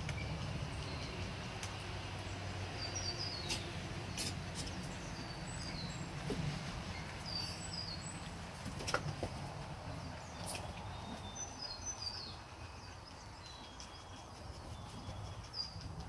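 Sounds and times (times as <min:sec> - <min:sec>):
small birds chirping: 0:00.0 - 0:08.4, 0:09.9 - 0:16.0
low outdoor rumble: 0:00.0 - 0:16.0.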